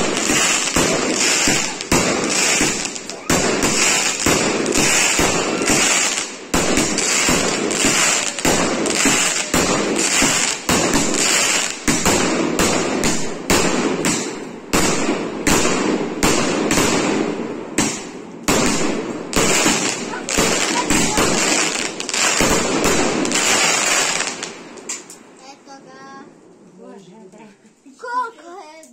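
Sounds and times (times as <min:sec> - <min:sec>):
fireworks bangs: 0:00.0 - 0:25.1
fireworks crackling fizz: 0:00.0 - 0:25.9.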